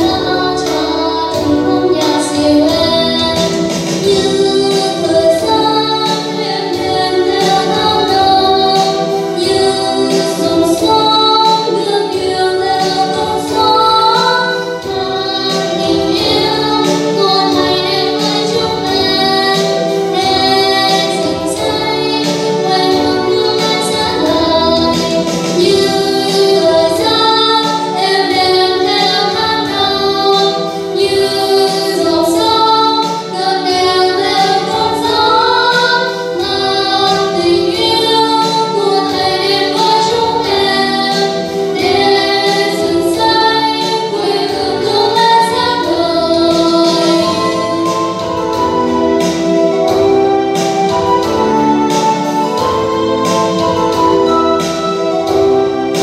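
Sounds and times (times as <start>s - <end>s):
backing music with steady beat: 0.0s - 56.0s
girls singing into microphones: 0.0s - 56.0s.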